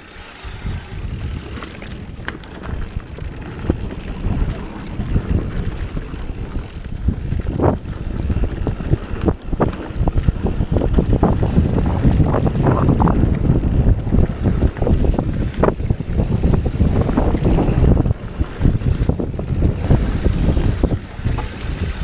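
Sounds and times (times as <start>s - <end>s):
bike tyres rumbling on dirt: 0.0s - 22.0s
wind buffeting microphone: 0.4s - 22.0s.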